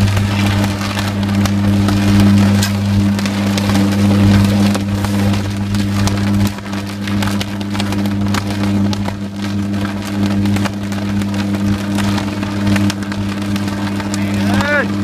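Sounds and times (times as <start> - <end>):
electric arc buzzing and crackling: 0.0 - 15.0.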